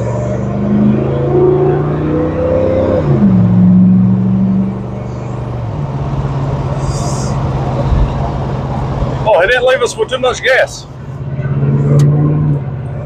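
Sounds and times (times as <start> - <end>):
car engine pulling: 0.0 - 13.0.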